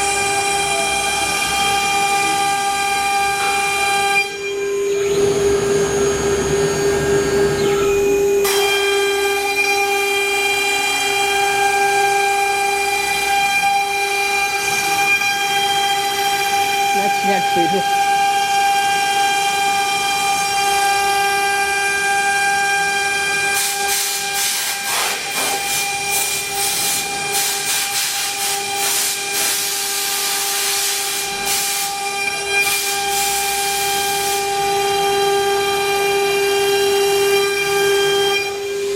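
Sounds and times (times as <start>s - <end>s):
router spindle whine: 0.0s - 27.7s, 31.0s - 38.9s
router bit cutting wood: 0.0s - 38.9s.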